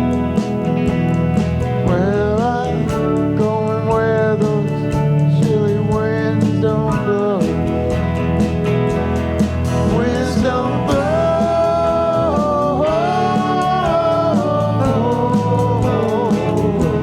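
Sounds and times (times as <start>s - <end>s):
rock band playing: 0.0s - 17.0s
lead vocal singing: 1.8s - 8.2s, 9.5s - 17.0s.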